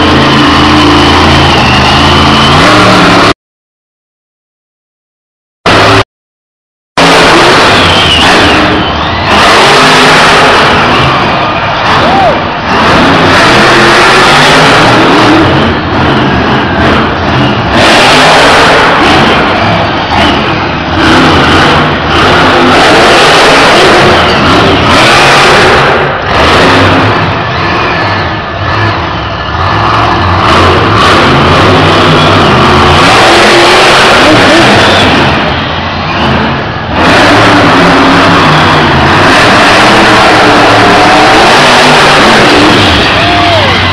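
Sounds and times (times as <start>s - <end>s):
truck engines revving hard: 0.0s - 3.4s, 5.6s - 6.1s, 7.0s - 43.9s.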